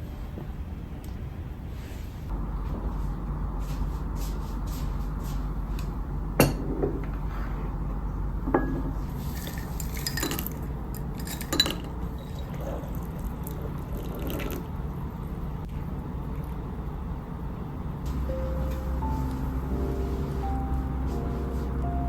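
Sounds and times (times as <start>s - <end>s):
steady low hum: 0.0s - 13.9s, 14.6s - 22.0s.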